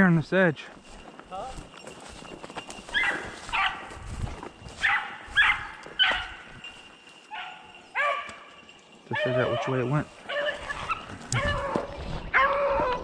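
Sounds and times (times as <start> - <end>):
beagles baying: 2.0 - 13.0.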